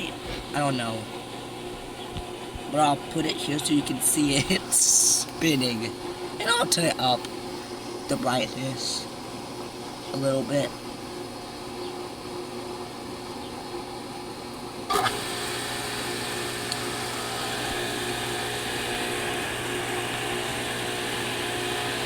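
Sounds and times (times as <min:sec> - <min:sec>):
pool pump motor humming: 0:00.0 - 0:22.0.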